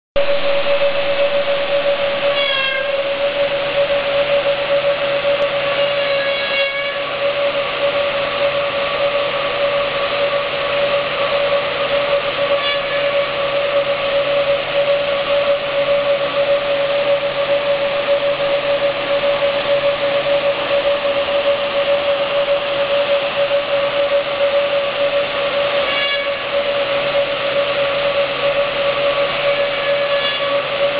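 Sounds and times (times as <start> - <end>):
woodworking machine motor whine: 0.2 - 30.9.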